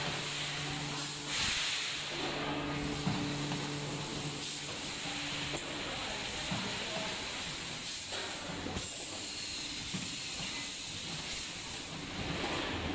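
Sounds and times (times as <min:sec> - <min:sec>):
packaging machine hiss: 0:00.0 - 0:12.9.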